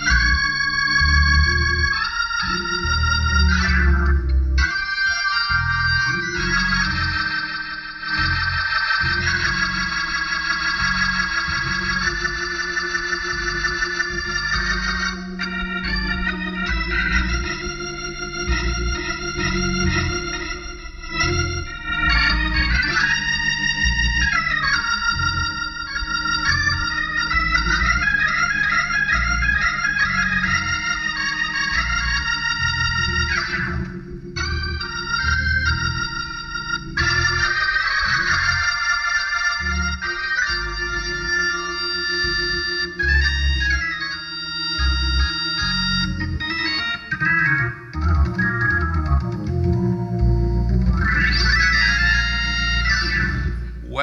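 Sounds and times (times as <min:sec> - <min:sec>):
organ worship music: 0:00.0 - 0:54.0.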